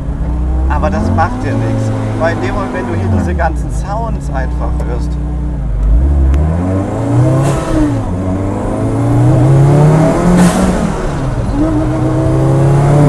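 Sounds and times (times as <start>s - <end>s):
car engine accelerating through gears: 0.0s - 13.0s.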